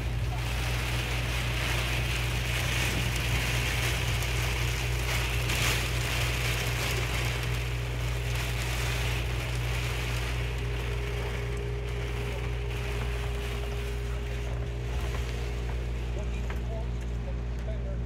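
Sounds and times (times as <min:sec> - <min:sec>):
rain on boat window and deck: 0:00.0 - 0:18.0
steady low rumble: 0:00.0 - 0:18.0.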